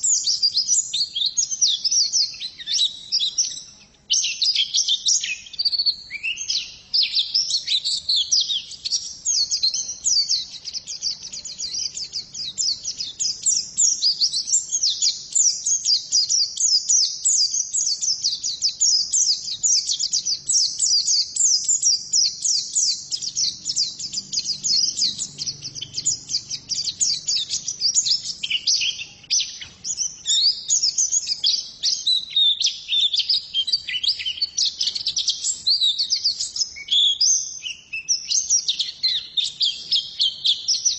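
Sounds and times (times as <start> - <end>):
bird singing rapid chirps: 0.0 - 40.9.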